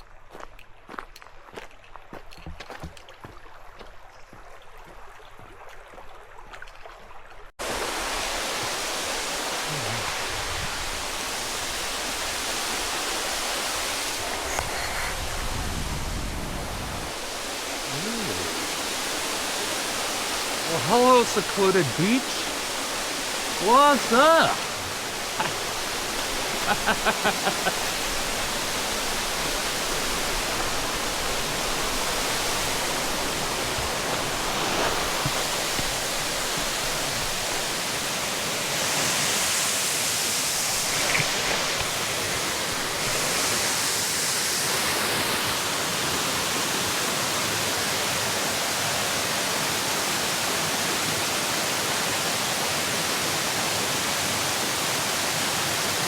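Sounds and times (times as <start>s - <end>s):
creek water flowing: 0.0s - 56.0s.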